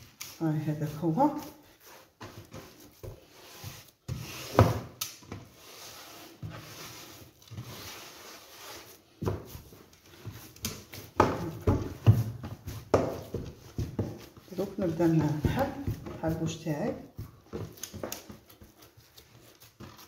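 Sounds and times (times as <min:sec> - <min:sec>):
dough rubbing on wooden bowl: 0:00.0 - 0:20.0.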